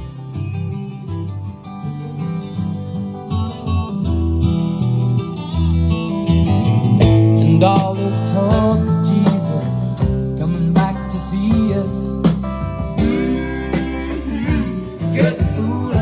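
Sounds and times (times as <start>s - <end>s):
deep bass notes: 0.0s - 16.0s
guitar music over loudspeakers: 0.0s - 16.0s.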